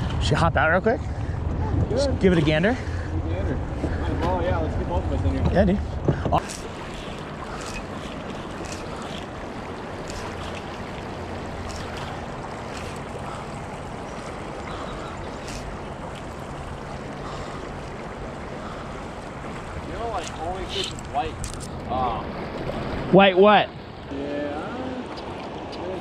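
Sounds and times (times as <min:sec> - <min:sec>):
river current splashing: 0:01.0 - 0:26.0.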